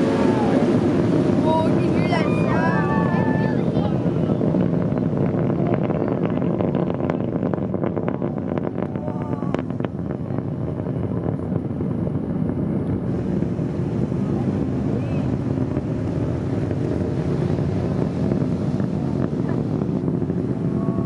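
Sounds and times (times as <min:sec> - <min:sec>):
distant rocket engine rumble: 0:00.0 - 0:21.0
wind buffeting microphone: 0:00.0 - 0:21.0.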